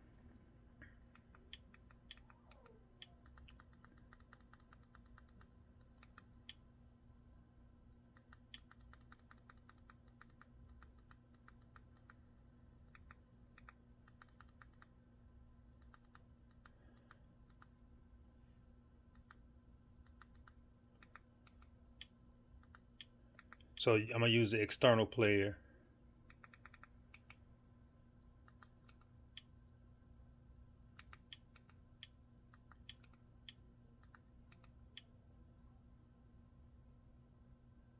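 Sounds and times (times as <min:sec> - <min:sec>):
faint low hum: 0:00.0 - 0:37.9.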